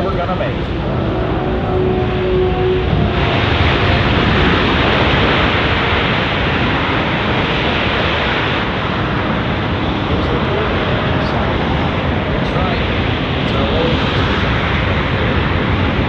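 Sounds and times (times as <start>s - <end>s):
jet engines in reverse thrust: 0.0s - 16.0s.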